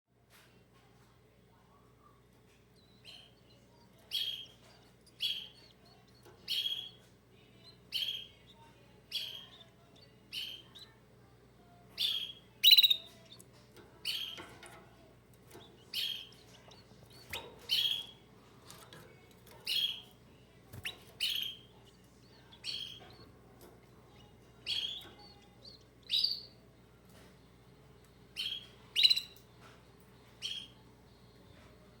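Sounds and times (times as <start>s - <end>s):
canary chirping: 1.7s - 32.0s.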